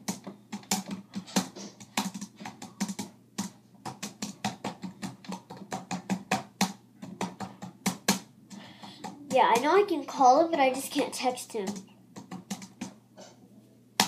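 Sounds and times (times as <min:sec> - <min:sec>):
laptop keyboard typing: 0:00.0 - 0:09.8, 0:11.4 - 0:13.0.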